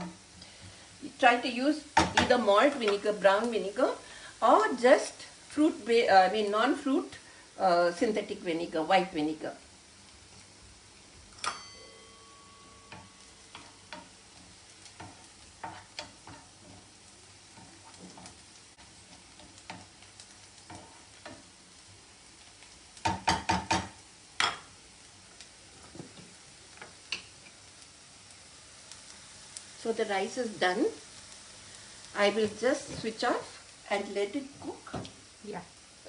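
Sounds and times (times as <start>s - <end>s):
onions sizzling in a pan: 0.0s - 36.0s.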